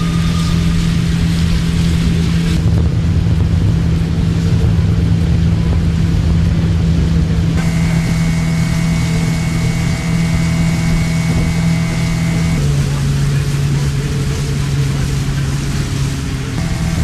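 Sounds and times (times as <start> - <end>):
outboard motor humming: 0.0 - 17.0
water rushing: 0.0 - 17.0.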